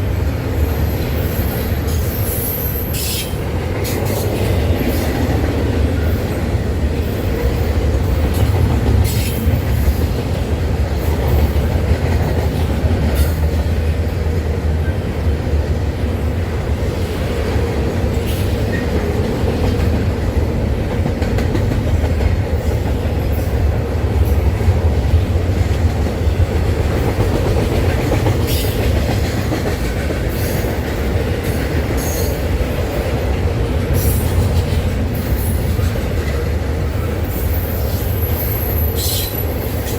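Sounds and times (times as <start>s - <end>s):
freight train rumbling: 0.0s - 39.9s
train wheels clacking: 0.0s - 39.9s.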